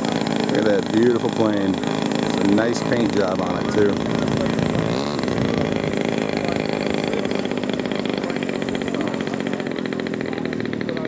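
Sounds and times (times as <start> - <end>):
model plane engine buzzing: 0.0 - 11.0.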